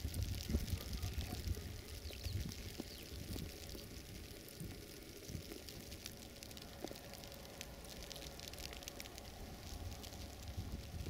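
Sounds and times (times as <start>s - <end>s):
wind rumble on microphone: 0.0s - 7.0s, 8.6s - 11.0s
faint crackling and ticking: 0.0s - 11.0s.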